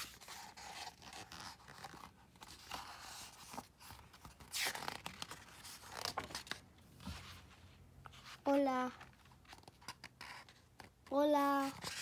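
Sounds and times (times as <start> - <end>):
book pages rustling: 0.0 - 12.0.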